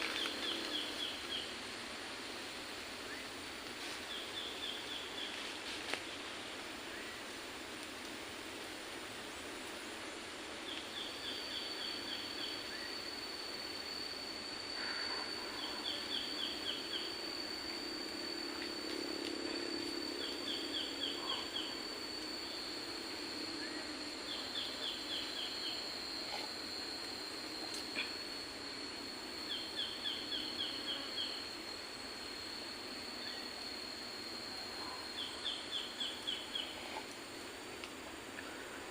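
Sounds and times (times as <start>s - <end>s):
steady background hiss: 0.0s - 38.9s
steady high-pitched tone: 0.0s - 38.9s.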